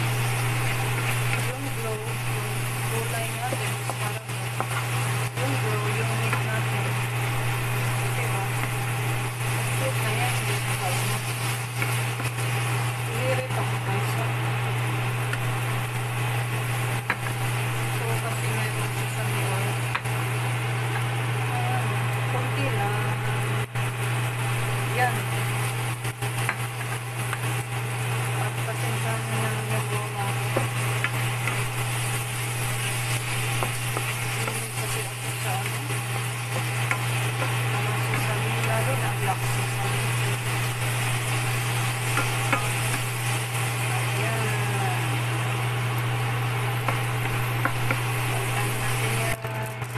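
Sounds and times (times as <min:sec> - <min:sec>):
spatula stirring in a pan: 0:00.0 - 0:19.3, 0:25.2 - 0:44.2, 0:46.5 - 0:49.9
food frying in a pan: 0:00.0 - 0:49.9
steady low hum: 0:00.0 - 0:49.9.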